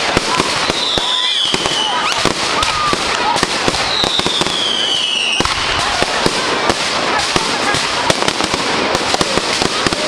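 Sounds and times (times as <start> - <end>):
fireworks bangs and crackles: 0.0 - 10.0
whistling firework: 0.0 - 10.0.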